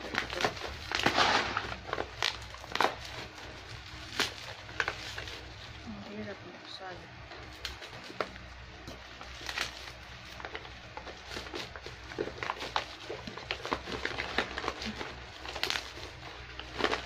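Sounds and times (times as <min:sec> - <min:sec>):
plastic packaging crinkling: 0:00.0 - 0:17.0
steady low hum: 0:00.0 - 0:17.0.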